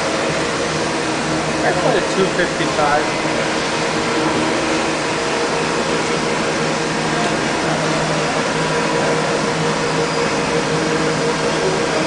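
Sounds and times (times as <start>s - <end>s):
band saw running: 0.0s - 12.0s.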